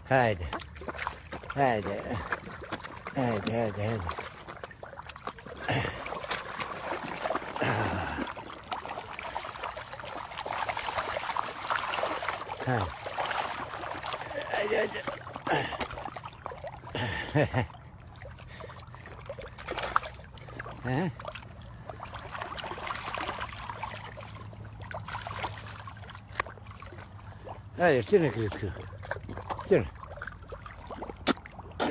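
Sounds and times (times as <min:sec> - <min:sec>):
small water drips: 0:00.0 - 0:31.9
water trickling and splashing: 0:00.0 - 0:31.9.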